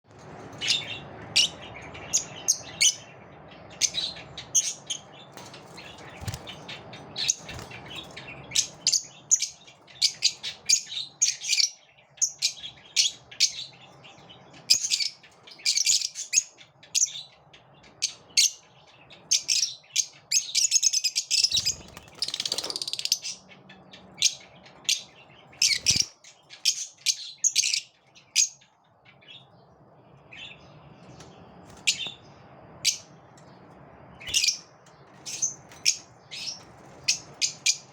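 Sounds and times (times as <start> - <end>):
lovebirds chirping: 0.4 - 37.9.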